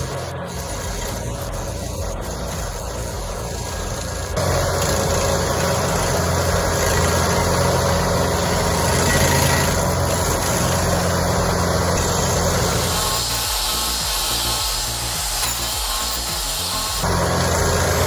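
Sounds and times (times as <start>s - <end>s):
stump grinder engine running: 0.0s - 18.0s.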